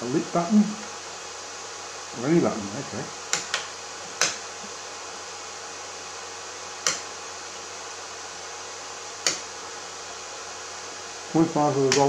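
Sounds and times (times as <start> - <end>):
low hiss: 0.0 - 12.0.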